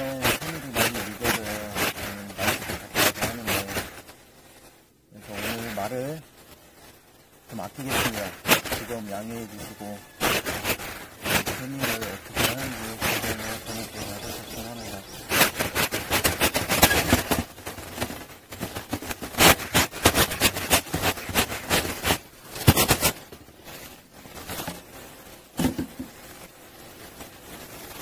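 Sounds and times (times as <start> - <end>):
leaves rustling and scraping: 0.0 - 28.0.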